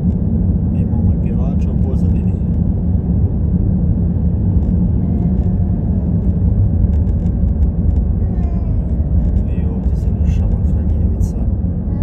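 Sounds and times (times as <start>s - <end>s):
vehicle road and engine rumble: 0.0s - 12.0s.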